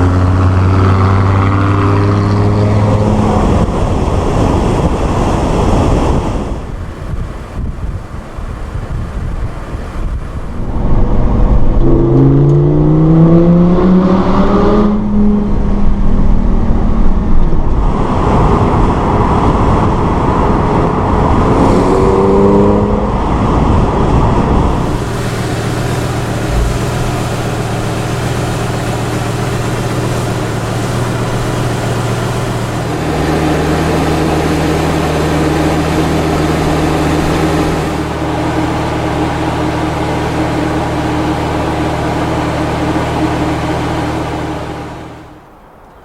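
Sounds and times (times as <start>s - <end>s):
sports car engine accelerating: 0.0s - 45.6s
road and wind noise: 0.0s - 46.0s.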